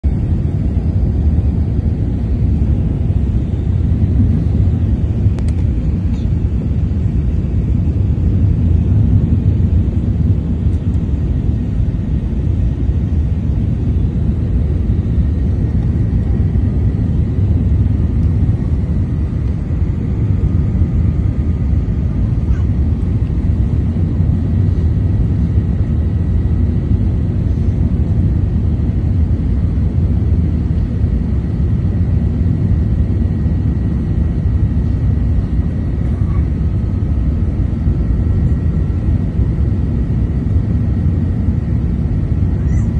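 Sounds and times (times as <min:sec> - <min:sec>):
airliner cabin low rumble: 0:00.0 - 0:42.9.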